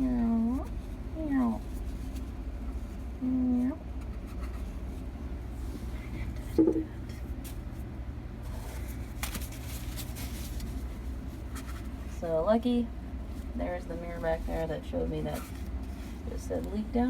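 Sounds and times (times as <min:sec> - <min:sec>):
steady low hum: 0:00.0 - 0:17.0
scraping and handling noises: 0:00.1 - 0:17.0.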